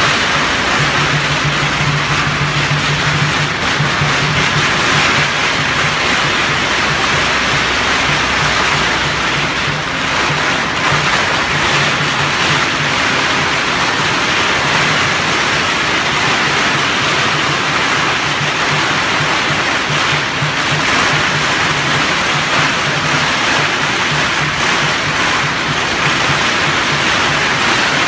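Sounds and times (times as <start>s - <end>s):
cymbals and gongs crashing: 0.0s - 28.0s
steady drum beat: 0.0s - 28.0s.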